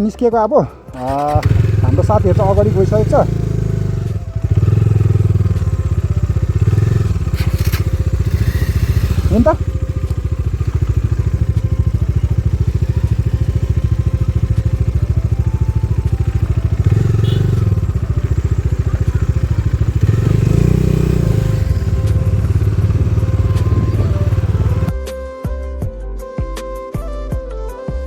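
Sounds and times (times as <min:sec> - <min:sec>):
motorcycle engine running: 0:00.9 - 0:24.9.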